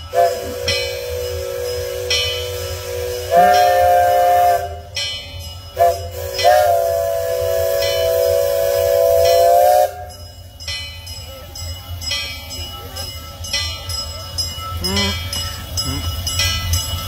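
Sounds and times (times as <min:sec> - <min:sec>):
steam locomotive chime whistle: 0:00.0 - 0:17.0.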